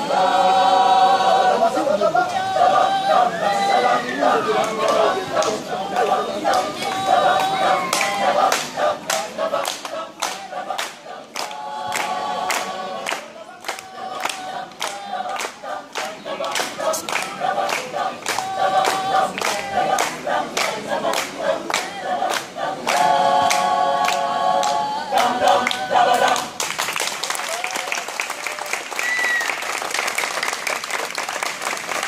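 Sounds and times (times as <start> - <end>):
mixed choir singing a cappella: 0.0 - 26.7.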